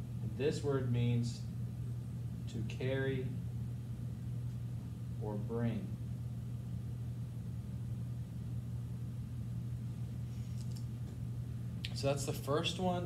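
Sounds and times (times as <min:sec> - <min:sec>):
low fan hum: 0:00.0 - 0:13.0.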